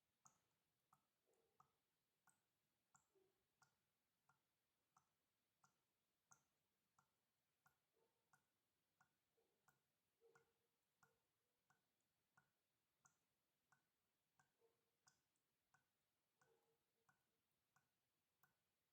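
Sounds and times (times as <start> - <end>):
water drips tapping: 0.0 - 18.7.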